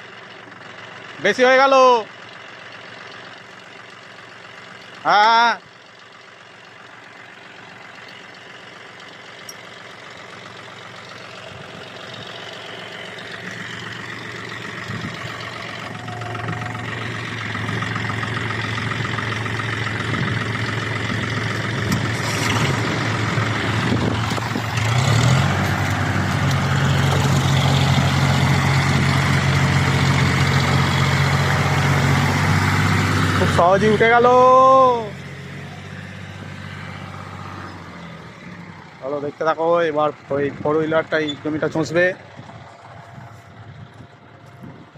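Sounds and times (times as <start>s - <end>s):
diesel tractor engine revving: 0.0s - 44.9s.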